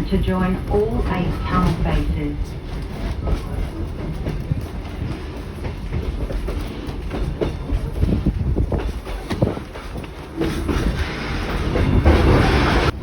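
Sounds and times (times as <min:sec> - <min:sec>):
train carriage rumbling: 0:00.0 - 0:13.0
wheels clacking over rail joints: 0:00.4 - 0:13.0.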